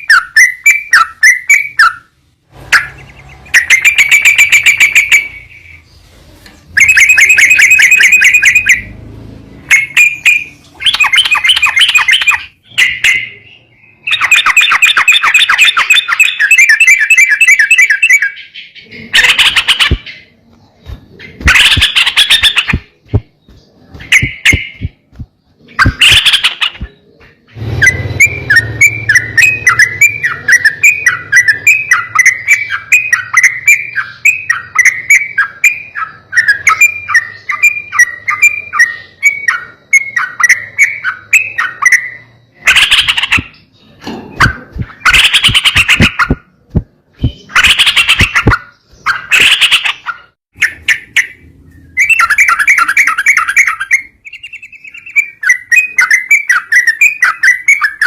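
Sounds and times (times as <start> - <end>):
bulbul song: 0.0 - 6.1, 6.7 - 58.0
loud bird calls: 0.0 - 58.0
quick chattering bird notes: 9.6 - 58.0.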